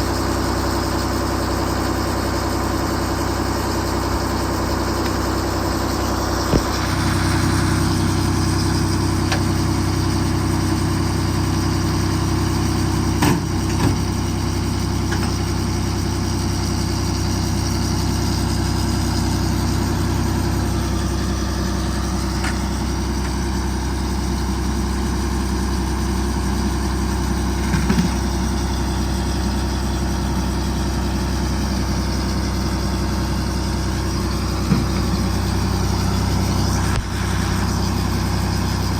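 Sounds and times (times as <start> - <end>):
excavator engine idling: 0.0 - 38.9.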